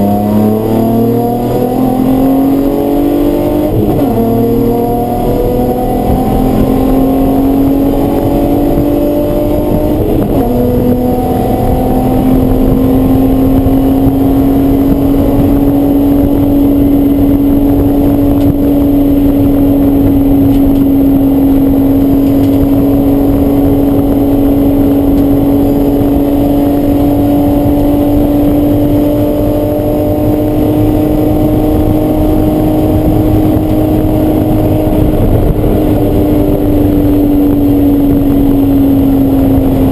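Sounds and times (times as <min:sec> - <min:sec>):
gear change: 0:00.0 - 0:39.9
race car engine accelerating: 0:00.0 - 0:39.9
rush of noise: 0:00.0 - 0:39.9.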